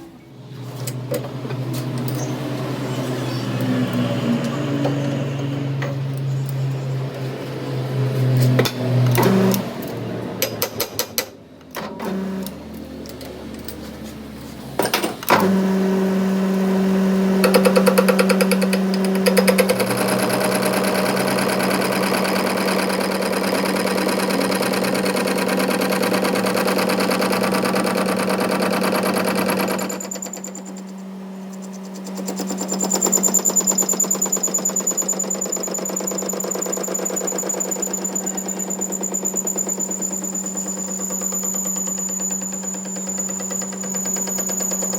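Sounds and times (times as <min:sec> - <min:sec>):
machine humming and rattling: 0:00.0 - 0:44.9.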